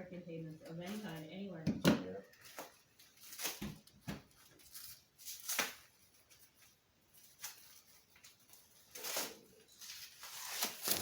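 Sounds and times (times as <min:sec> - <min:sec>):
packages rustling being unwrapped: 0:00.2 - 0:01.5, 0:02.1 - 0:11.0.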